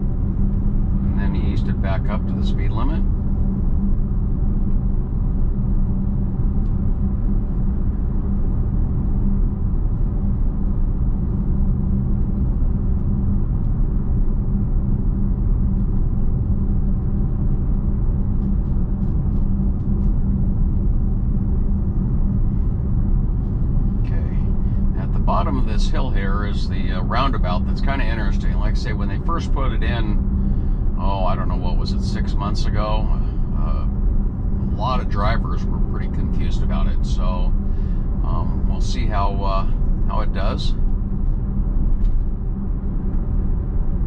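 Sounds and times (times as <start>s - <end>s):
low hum: 0.0s - 44.0s
road and tyre rumble: 0.0s - 44.0s.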